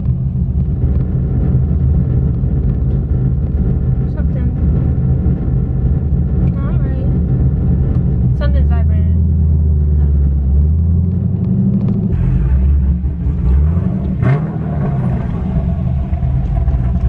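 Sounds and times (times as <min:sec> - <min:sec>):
car engine deep loud rumble: 0:00.0 - 0:17.0.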